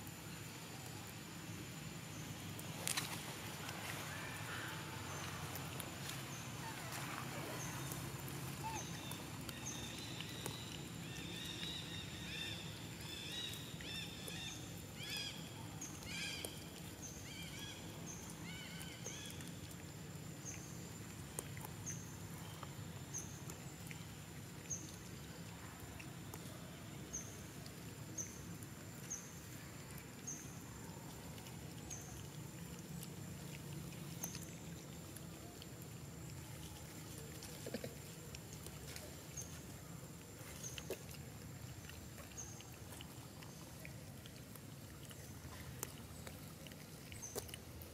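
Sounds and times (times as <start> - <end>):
low steady background hum: 0.0 - 47.9.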